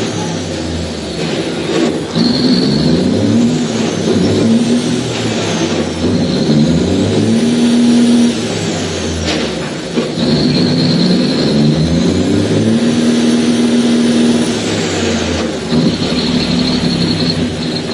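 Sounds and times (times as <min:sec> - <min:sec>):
diesel truck engine revving: 0:00.0 - 0:17.9.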